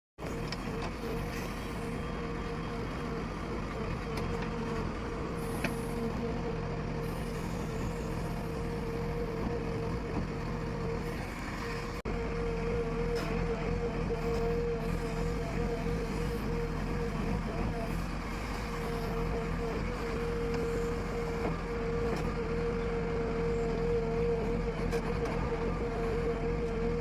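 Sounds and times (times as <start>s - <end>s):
diesel engine humming: 0.2s - 27.0s.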